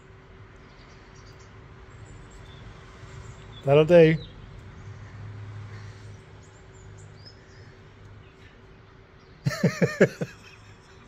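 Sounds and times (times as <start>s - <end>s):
faint birdsong: 0.0s - 11.0s.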